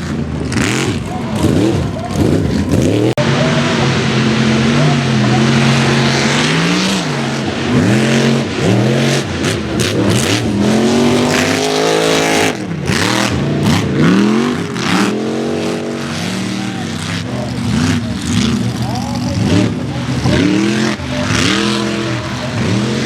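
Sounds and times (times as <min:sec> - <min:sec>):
engine crackles: 0:00.0 - 0:23.0
truck engine revving: 0:00.0 - 0:23.0.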